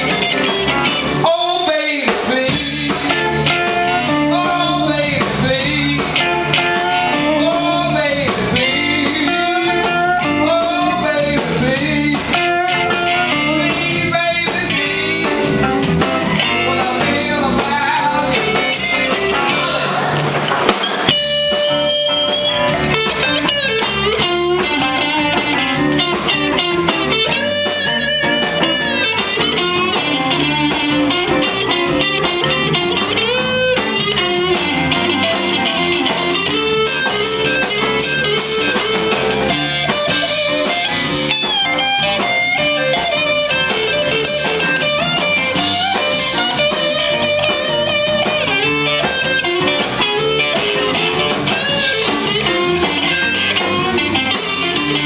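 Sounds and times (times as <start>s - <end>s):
bass guitar: 0.0s - 55.0s
drums: 0.0s - 55.0s
lead electric guitar: 0.0s - 55.0s.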